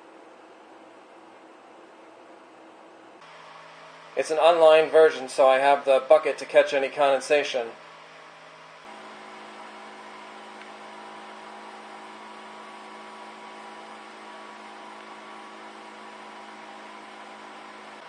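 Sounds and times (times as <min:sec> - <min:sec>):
small fan humming: 0:00.0 - 0:18.0.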